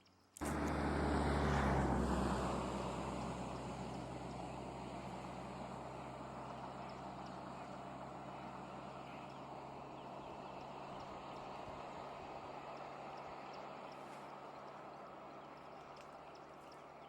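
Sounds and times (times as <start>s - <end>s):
outdoor background noise: 0.0s - 17.0s
vehicle engine idling: 0.4s - 17.0s.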